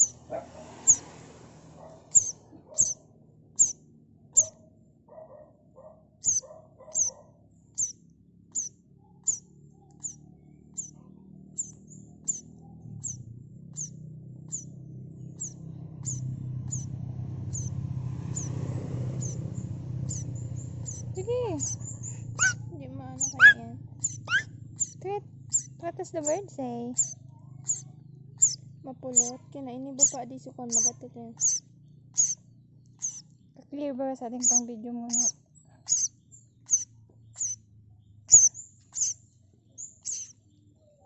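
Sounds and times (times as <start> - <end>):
bird chirping: 0.0 - 1.1, 2.0 - 3.0, 3.6 - 4.6, 6.2 - 33.6, 34.3 - 41.0
lower bird calls: 0.0 - 1.2, 2.1 - 3.0, 3.6 - 3.8, 4.4 - 4.6, 6.2 - 7.2, 7.8 - 33.6, 34.4 - 41.0.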